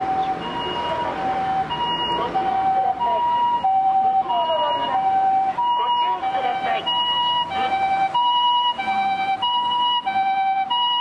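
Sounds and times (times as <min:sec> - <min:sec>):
two-tone siren: 0:00.0 - 0:11.0.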